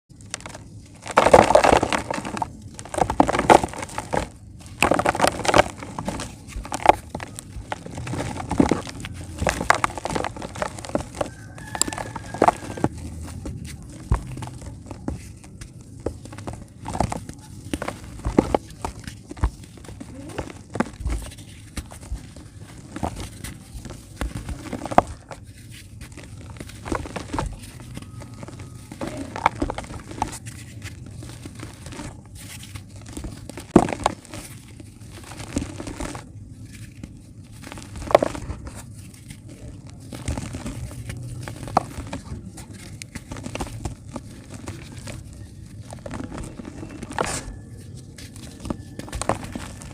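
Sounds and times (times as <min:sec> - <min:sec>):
dry dirt clumps crunching: 0:00.1 - 0:49.9.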